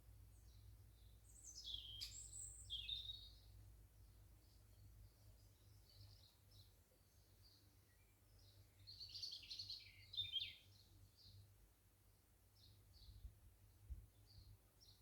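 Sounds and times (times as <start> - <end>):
garden birds singing: 0.2 - 11.6, 12.5 - 15.0.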